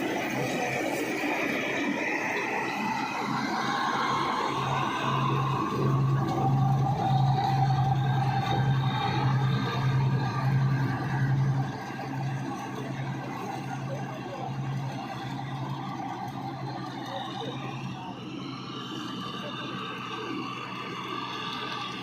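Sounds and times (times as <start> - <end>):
harvesting machine running: 0.0 - 22.0
low hum: 0.0 - 22.0.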